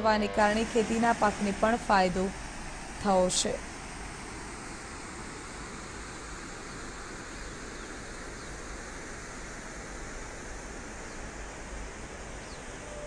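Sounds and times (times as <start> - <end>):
water rushing through spillway: 0.4 - 13.0.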